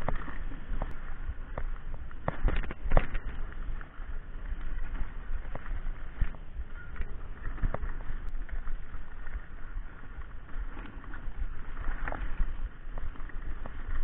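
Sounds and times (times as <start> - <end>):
bike knocks and rattles: 0.0 - 14.0
bike tyres rolling over dirt: 0.0 - 14.0
wind buffeting microphone: 0.0 - 14.0.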